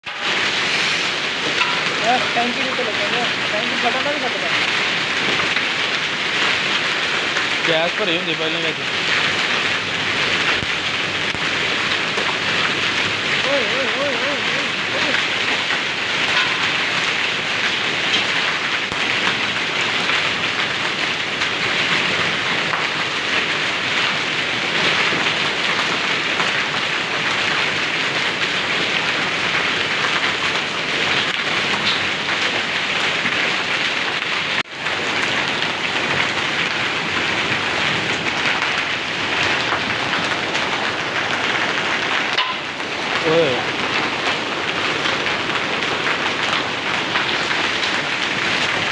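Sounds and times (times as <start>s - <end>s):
hail and heavy rain pelting: 0.0s - 48.9s.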